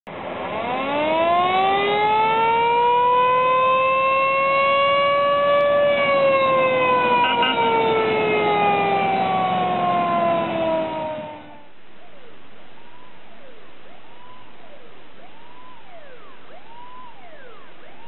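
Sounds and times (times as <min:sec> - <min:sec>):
fire engine siren wailing: 0:00.1 - 0:18.0
higher siren tones: 0:00.5 - 0:18.0.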